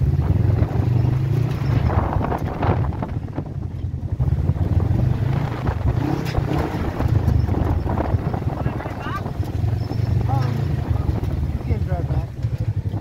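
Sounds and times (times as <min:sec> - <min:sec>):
vehicle engine rumbling: 0:00.0 - 0:13.0
wind buffeting microphone: 0:00.0 - 0:13.0.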